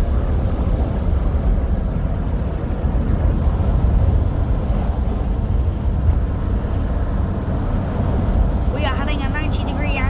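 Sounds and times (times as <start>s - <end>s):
car interior road and engine rumble: 0.0s - 10.0s.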